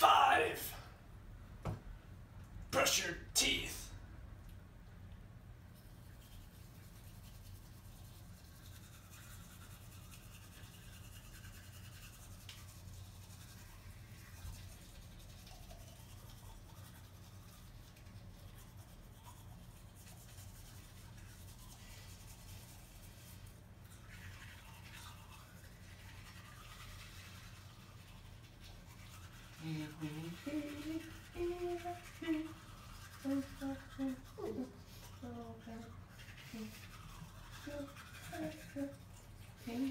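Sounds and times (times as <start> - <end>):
low steady hum: 0.0 - 39.9
toothbrush scrubbing teeth: 5.6 - 39.9.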